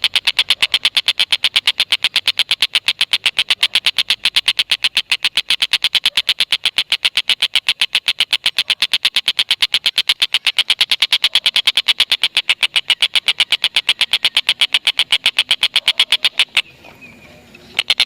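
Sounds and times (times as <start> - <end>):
kingfisher chattering call: 0.0 - 18.0.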